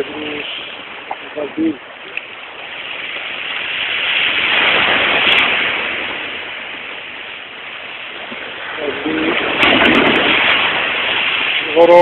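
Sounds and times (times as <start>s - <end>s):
sea wave washing in: 0.0s - 12.0s.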